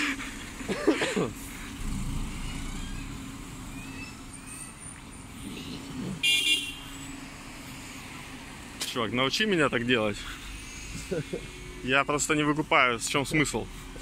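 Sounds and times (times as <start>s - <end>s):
bus passing: 0.0s - 14.0s
city street traffic: 0.0s - 14.0s.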